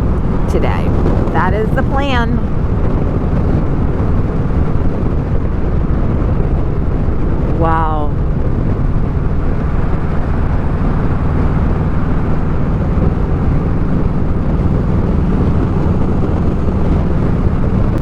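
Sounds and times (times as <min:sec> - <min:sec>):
motorcycle engine drone: 0:00.0 - 0:18.0
wind noise: 0:00.0 - 0:18.0.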